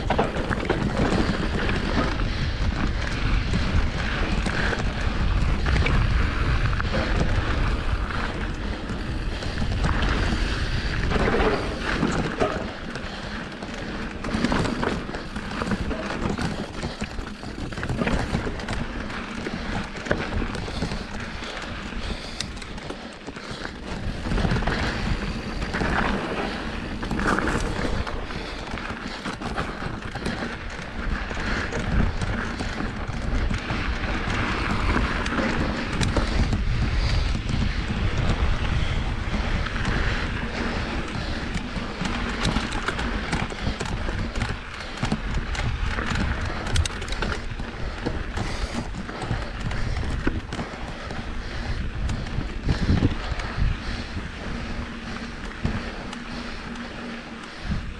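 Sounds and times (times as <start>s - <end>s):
bike rattling over rocks: 0.0s - 57.9s
bike tyres crunching on dirt: 0.0s - 57.9s
wind rumbling on microphone: 0.0s - 57.9s.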